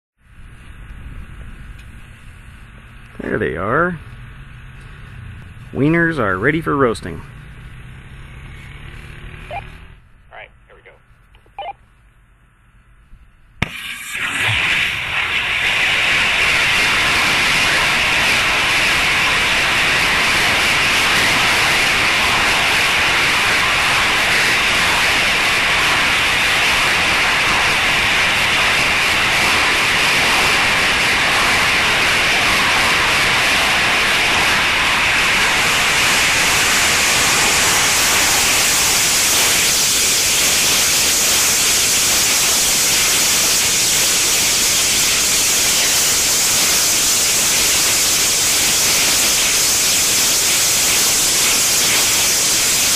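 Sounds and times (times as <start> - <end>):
rocket engine hissing: 0.3 - 9.9, 13.6 - 52.9.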